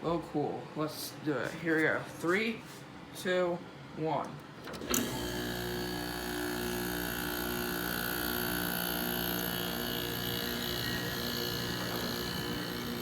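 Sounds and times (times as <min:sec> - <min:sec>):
air conditioner hum: 0:00.0 - 0:07.1, 0:08.0 - 0:13.0.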